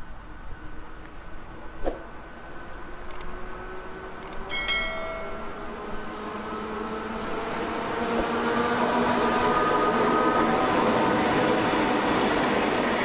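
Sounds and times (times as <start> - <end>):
electric locomotive running hum: 0.0 - 13.0.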